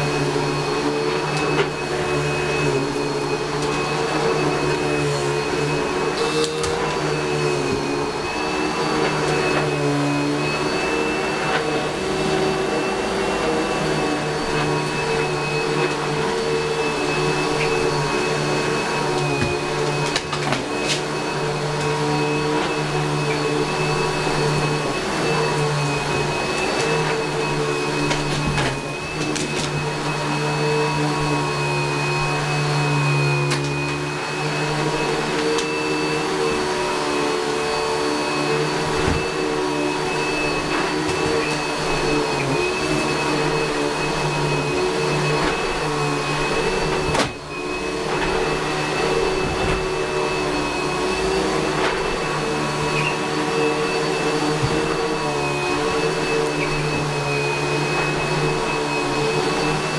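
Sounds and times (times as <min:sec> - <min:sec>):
upright vacuum cleaner running: 0:00.0 - 0:59.9.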